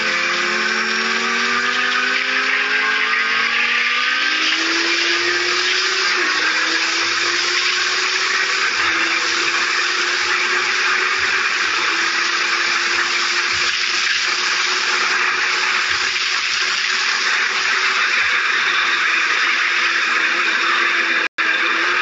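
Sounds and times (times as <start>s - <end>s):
motorcycle engine high-revving: 0.0s - 22.0s.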